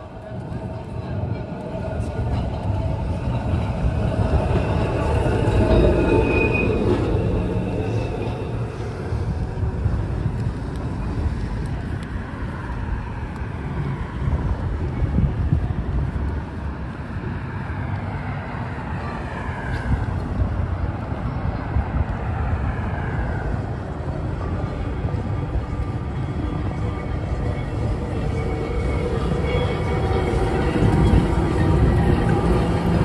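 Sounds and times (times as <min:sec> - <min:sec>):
traffic noise: 0:00.0 - 0:33.0
wind rumbling on microphone: 0:00.0 - 0:33.0.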